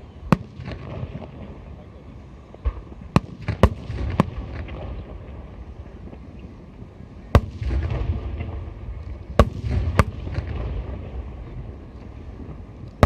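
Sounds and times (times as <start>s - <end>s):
low rumble of distant booms: 2.5s - 13.0s.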